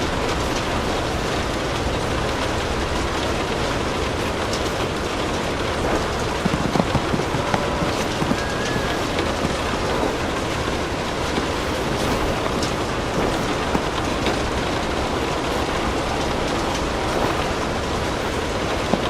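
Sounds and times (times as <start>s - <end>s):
steady rain: 0.0s - 19.0s
wood fire crackling and popping: 0.0s - 19.0s.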